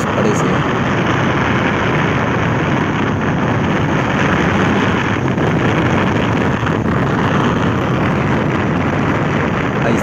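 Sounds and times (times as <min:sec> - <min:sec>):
motorcycle engine running: 0:00.0 - 0:10.0
wind rushing over microphone: 0:00.0 - 0:10.0.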